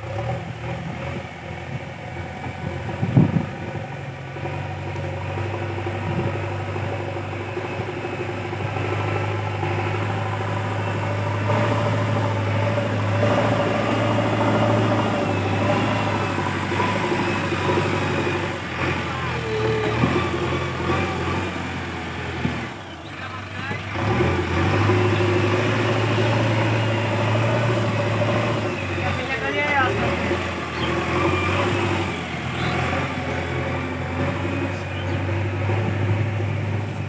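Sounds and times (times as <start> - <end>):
diesel engine running: 0.0 - 37.0
loader bucket pushing soil: 0.0 - 37.0.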